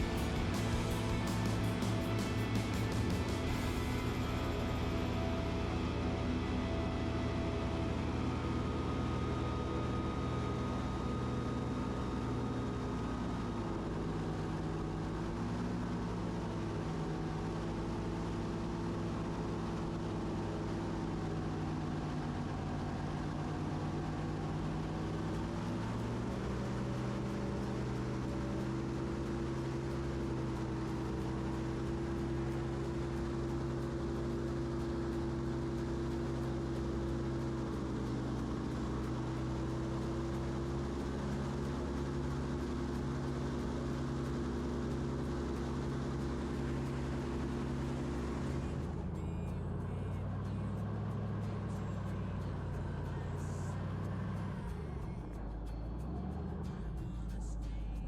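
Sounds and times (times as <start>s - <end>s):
airboat engine and propeller: 0.0s - 57.4s.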